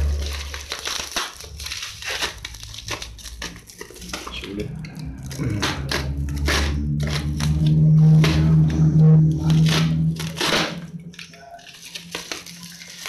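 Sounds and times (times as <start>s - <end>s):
low rumble: 0.0s - 12.6s
plastic wrapping crinkling: 0.0s - 13.0s.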